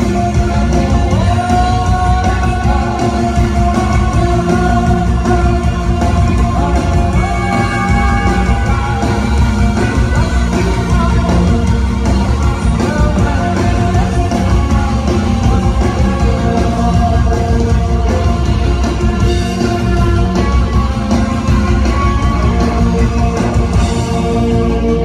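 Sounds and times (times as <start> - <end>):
bass guitar: 0.0 - 25.0
drums: 0.0 - 25.0
electric guitar: 0.0 - 25.0
person singing into microphone: 0.0 - 25.0.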